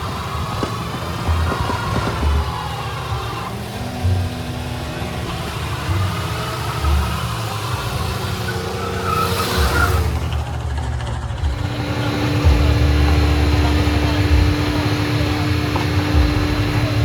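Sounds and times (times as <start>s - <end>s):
car engine rumbling and revving: 0.0s - 17.0s
high-pitched screech: 0.0s - 17.0s.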